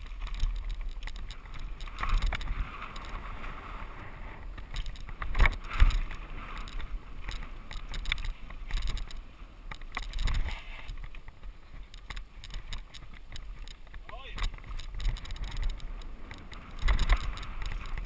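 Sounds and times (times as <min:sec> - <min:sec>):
bike rattling over bumps: 0:00.0 - 0:18.0
tyres on dirt: 0:00.0 - 0:18.0
wind rumbling on microphone: 0:00.0 - 0:18.0.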